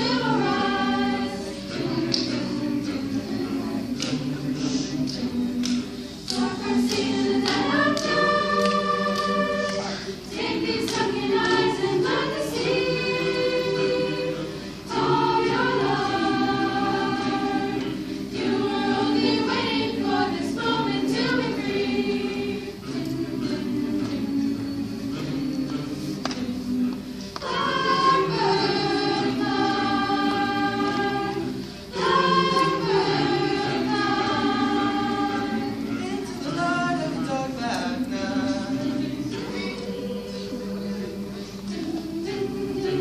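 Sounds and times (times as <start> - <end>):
choir singing in parts: 0.0 - 43.0.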